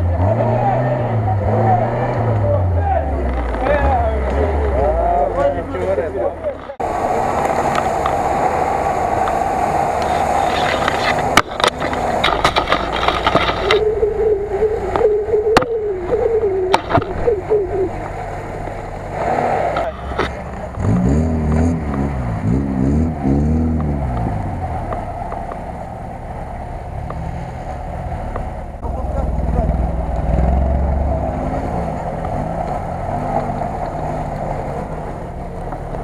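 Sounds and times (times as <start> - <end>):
off-road vehicle engines: 0.0 - 36.0.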